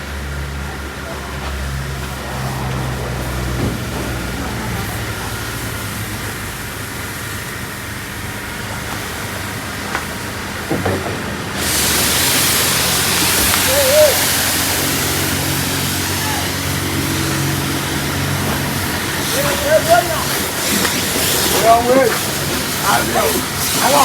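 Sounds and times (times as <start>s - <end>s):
loud hiss of water spray: 0.0s - 24.0s.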